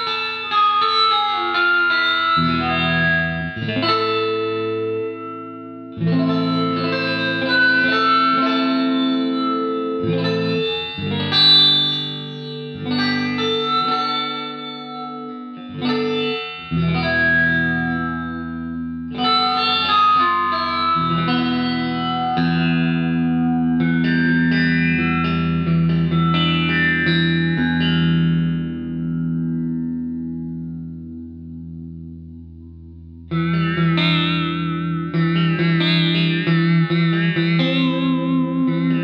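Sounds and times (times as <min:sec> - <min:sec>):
electric guitar strumming chords: 0:00.0 - 0:39.0.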